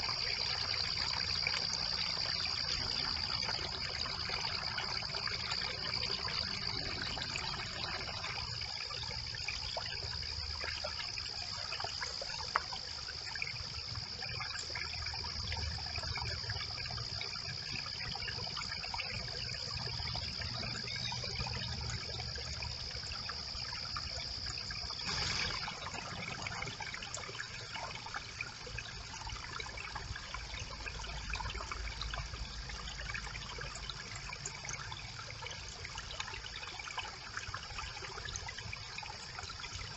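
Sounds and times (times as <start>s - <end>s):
brook water trickling: 0.0s - 39.9s.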